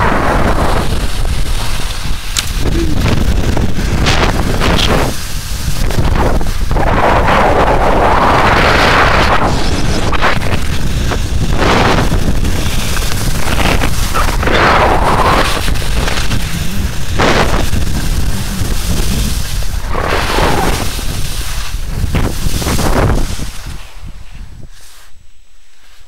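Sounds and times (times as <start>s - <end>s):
wind buffeting microphone: 0.0s - 24.8s
skis hissing through snow: 0.0s - 26.0s.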